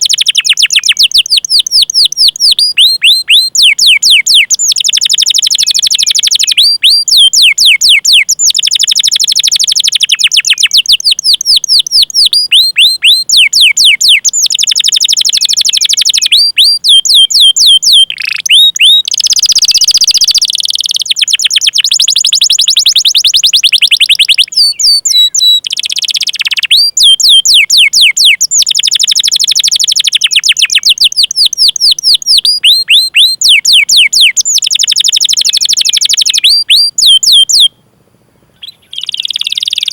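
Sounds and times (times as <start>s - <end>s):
canary singing: 0.0s - 37.8s, 38.6s - 39.9s.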